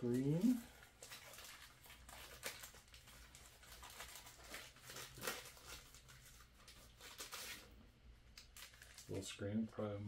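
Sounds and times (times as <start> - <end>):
packaging rustling: 0.0 - 9.2
packaging crinkle: 0.0 - 9.5.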